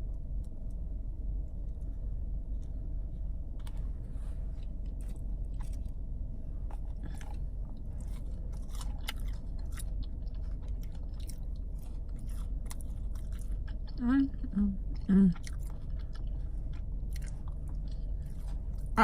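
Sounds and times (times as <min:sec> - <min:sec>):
low car hum: 0:00.0 - 0:19.0
person chewing food: 0:01.5 - 0:19.0.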